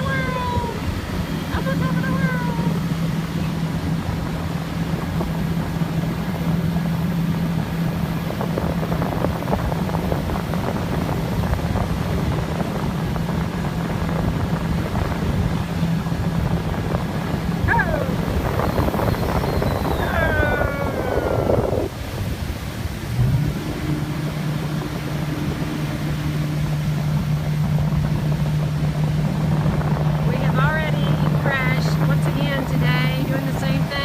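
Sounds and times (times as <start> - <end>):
motorboat engine drone: 0.0 - 34.0
rushing water and wind: 0.0 - 34.0.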